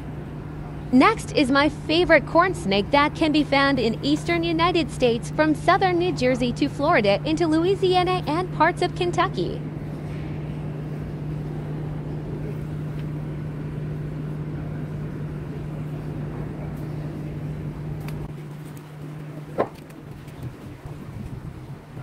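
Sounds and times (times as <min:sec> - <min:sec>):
low mechanical motor hum: 0:00.0 - 0:22.0.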